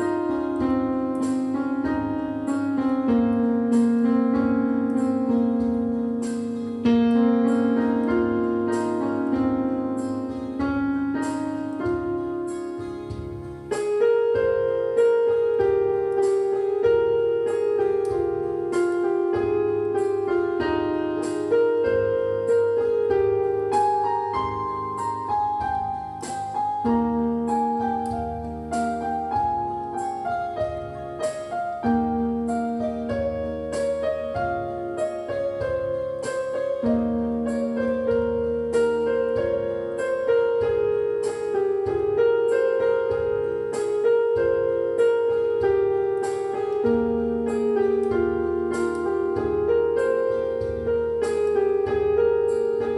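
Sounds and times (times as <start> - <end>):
slow piano melody: 0.0 - 52.9.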